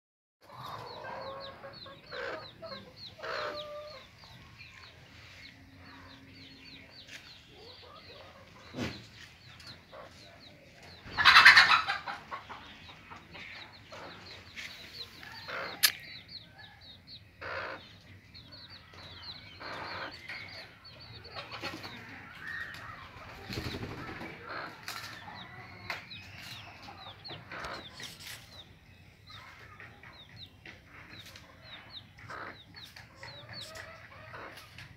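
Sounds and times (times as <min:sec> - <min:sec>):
chicks peeping: 0:00.4 - 0:34.9
hen clucking: 0:00.4 - 0:34.9.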